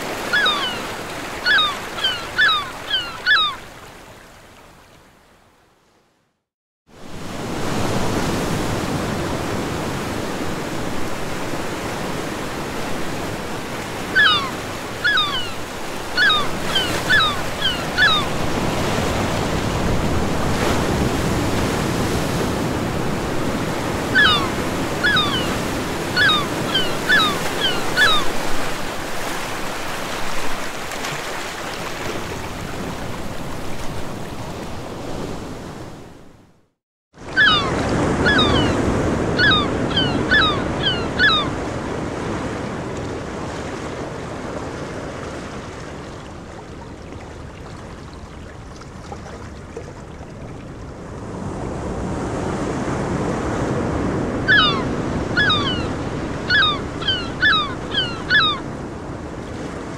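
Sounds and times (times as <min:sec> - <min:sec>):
ocean surf: 0:00.0 - 0:05.1, 0:06.9 - 0:36.4, 0:37.2 - 0:59.9.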